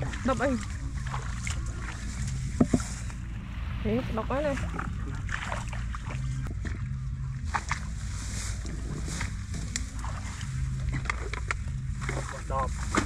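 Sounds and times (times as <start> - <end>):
steady low hum: 0.0 - 13.0
water sloshing and splashing: 0.0 - 13.0.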